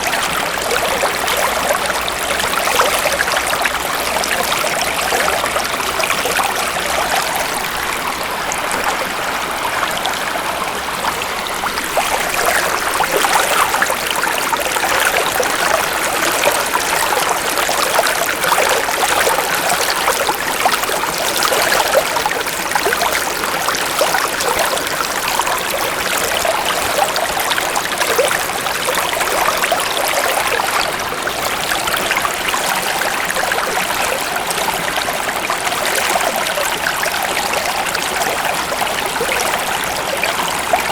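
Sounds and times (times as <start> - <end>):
shallow stream over stones: 0.0 - 40.9.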